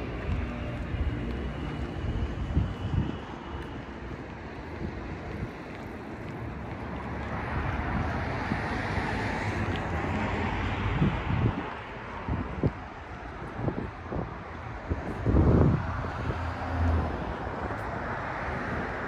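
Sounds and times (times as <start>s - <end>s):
low traffic rumble: 0.0s - 19.0s
wind buffeting microphone: 0.0s - 19.0s.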